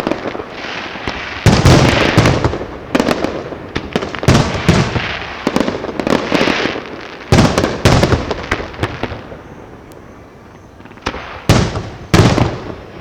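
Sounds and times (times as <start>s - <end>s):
fireworks booming: 0.0s - 13.0s.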